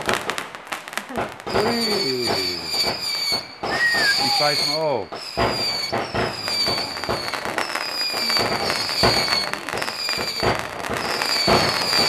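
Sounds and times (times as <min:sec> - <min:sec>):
firework cracks and bangs: 0:00.0 - 0:12.0
firework whistles: 0:01.4 - 0:12.0.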